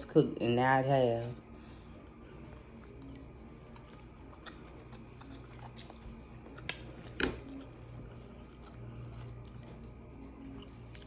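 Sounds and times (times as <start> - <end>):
person chewing food: 1.5 - 11.0.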